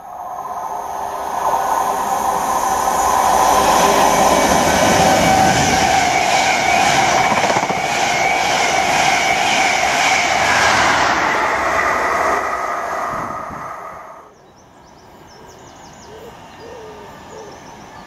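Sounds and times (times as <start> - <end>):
approaching train rumble: 0.0 - 18.0
train passing at speed: 0.0 - 18.0.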